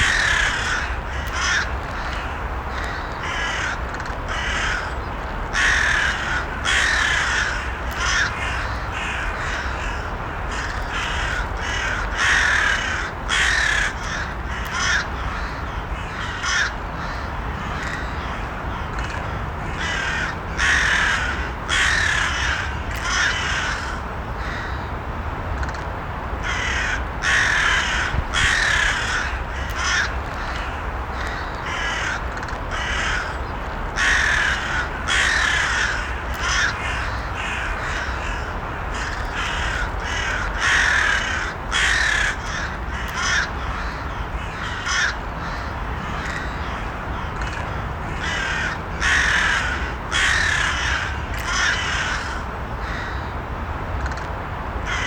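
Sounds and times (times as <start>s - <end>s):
crows cawing: 0.0s - 24.9s, 26.4s - 53.3s.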